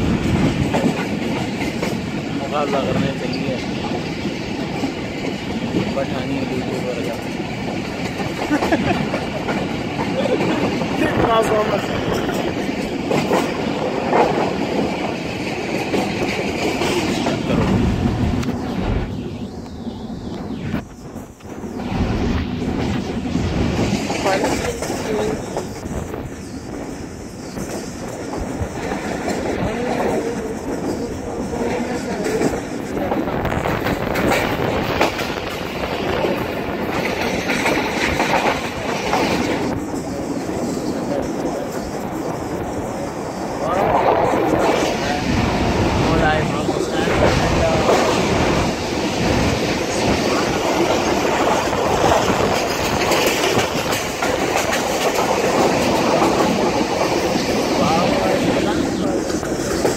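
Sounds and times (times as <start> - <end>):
train rumbling along track: 0.0 - 59.9
train wheels clickety-clack: 0.0 - 59.9.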